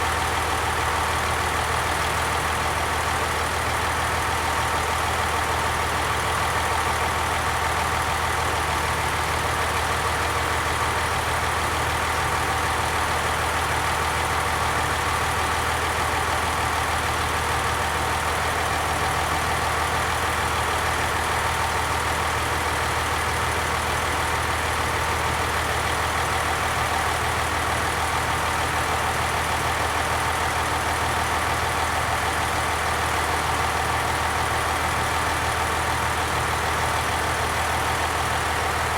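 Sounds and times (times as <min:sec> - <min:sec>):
diesel train engine running: 0:00.0 - 0:38.9.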